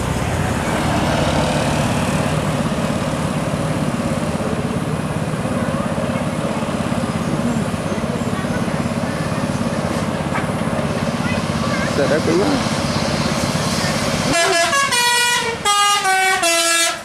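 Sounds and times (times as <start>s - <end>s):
bus diesel engine running: 0.0s - 17.0s
tyre and road noise: 0.0s - 17.0s.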